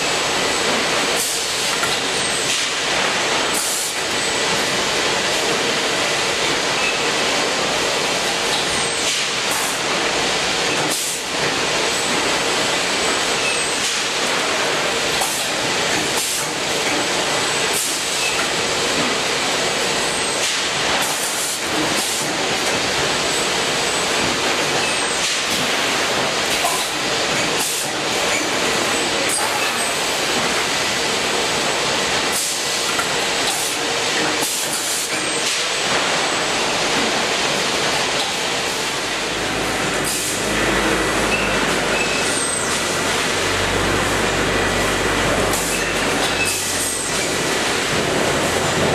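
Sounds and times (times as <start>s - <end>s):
conveyor machinery noise: 0.0s - 48.9s.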